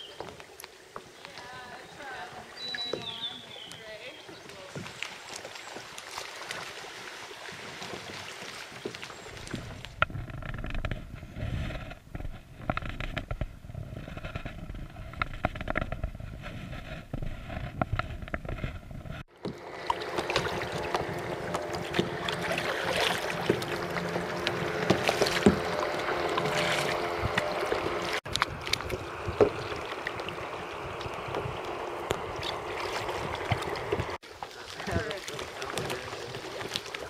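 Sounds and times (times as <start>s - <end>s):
paddle splashing in water: 0.0s - 37.0s
water lapping at hull: 0.0s - 37.0s.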